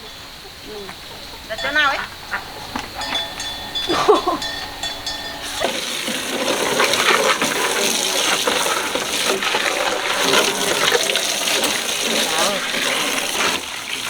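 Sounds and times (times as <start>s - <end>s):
gushing water: 0.0s - 14.0s.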